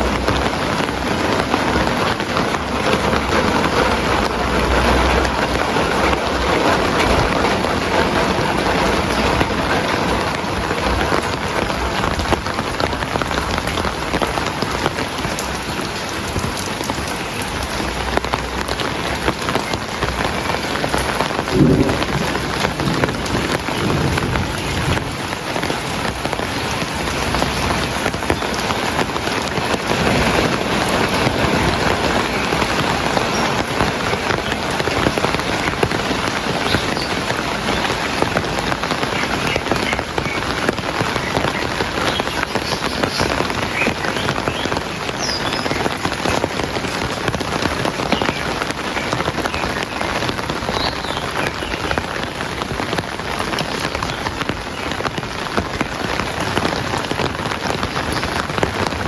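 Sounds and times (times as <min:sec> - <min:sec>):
thunder rumble: 0:00.0 - 0:48.1
heavy rain falling: 0:00.0 - 0:59.0.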